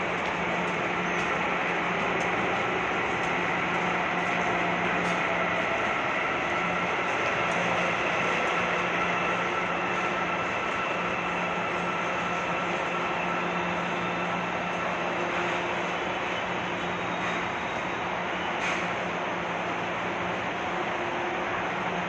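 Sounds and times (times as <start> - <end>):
metro train rumbling on track: 0.0 - 22.0.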